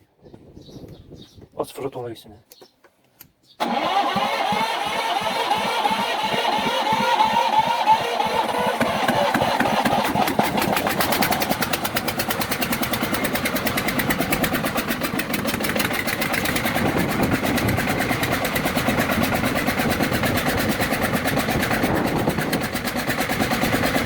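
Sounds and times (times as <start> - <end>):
diesel engine knocking: 3.6 - 24.0.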